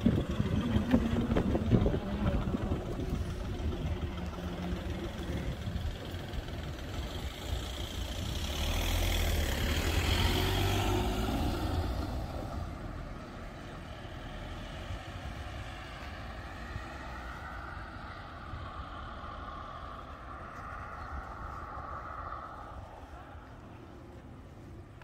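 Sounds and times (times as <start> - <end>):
passing vehicle rumble: 0.0 - 25.0.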